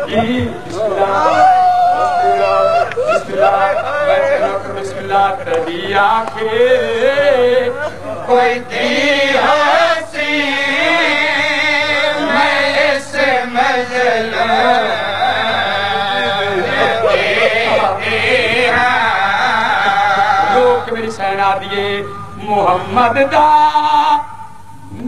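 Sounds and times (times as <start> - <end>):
man chanting a lament: 0.0 - 25.0.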